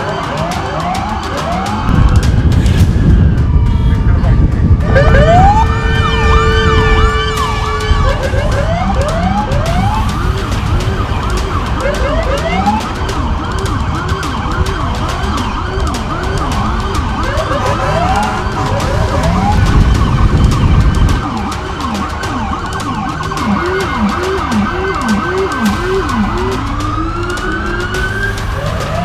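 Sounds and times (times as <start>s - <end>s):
police sirens yelping: 0.0s - 29.0s
traffic rumble: 0.0s - 29.0s
steady horn tone: 3.6s - 29.0s.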